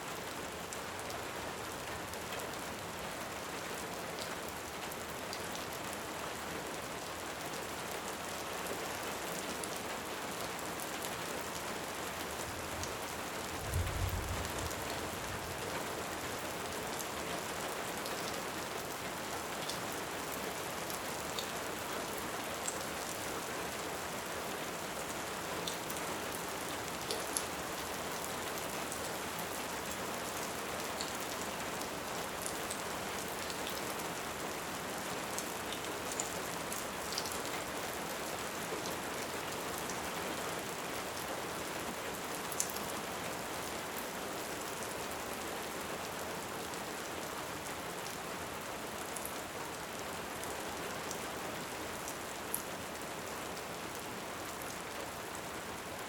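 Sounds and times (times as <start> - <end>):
heavy rain: 0.1 - 56.0.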